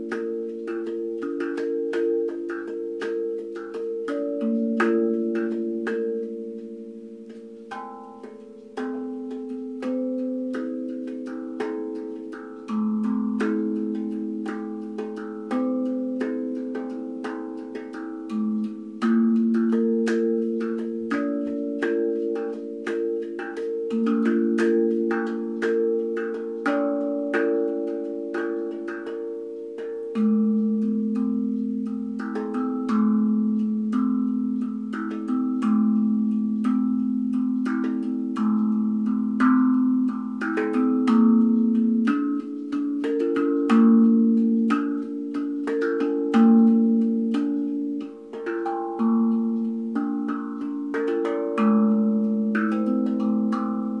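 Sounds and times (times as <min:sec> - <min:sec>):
steel tongue drum notes: 0:00.0 - 0:54.0.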